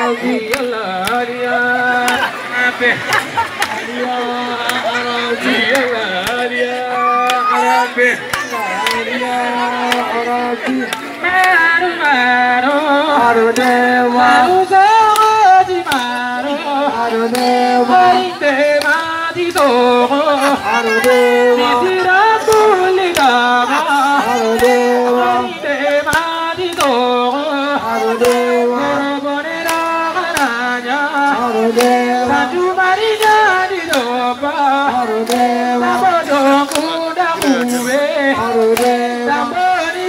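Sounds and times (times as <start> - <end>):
man singing into microphone: 0.0 - 40.0.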